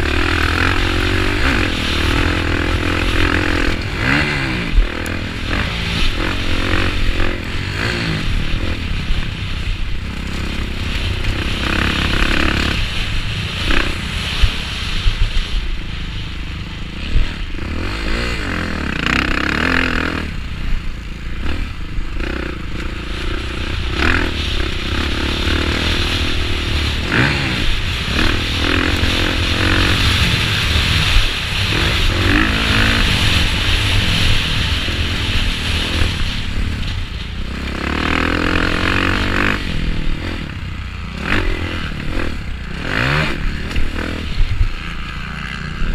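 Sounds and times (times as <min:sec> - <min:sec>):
motocross bike engine revving: 0:00.0 - 0:45.9
wind rushing over microphone: 0:00.0 - 0:45.9.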